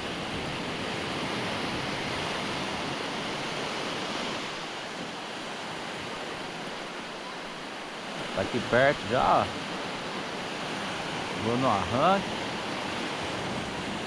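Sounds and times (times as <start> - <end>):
sea surf washing onto beach: 0.0 - 14.0.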